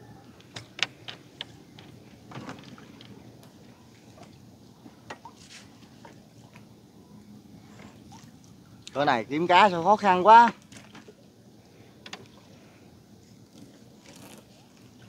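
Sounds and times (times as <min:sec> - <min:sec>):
low wash of water: 0:00.0 - 0:15.0.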